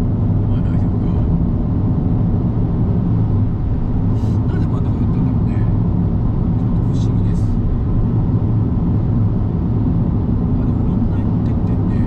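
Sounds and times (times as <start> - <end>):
car interior road drone: 0.0 - 12.0.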